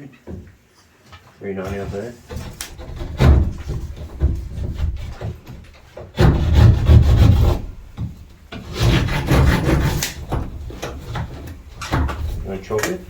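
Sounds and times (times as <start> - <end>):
hand saw rasping plasterboard: 1.7 - 13.0.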